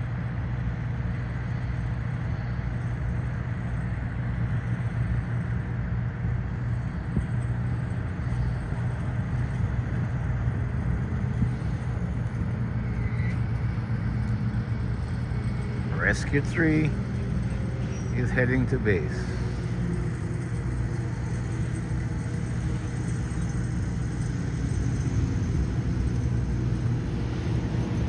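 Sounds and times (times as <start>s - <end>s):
low engine rumble: 0.0s - 28.0s.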